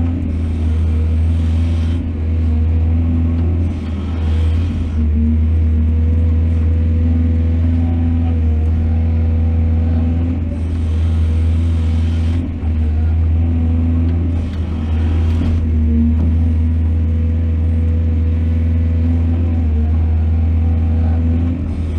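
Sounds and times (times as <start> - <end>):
diesel engine running under load: 0.0 - 21.9.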